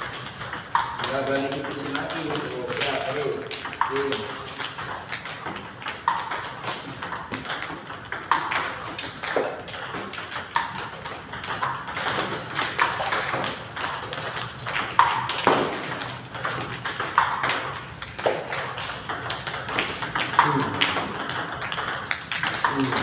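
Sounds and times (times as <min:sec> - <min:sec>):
table tennis balls clicking: 0:00.0 - 0:23.0.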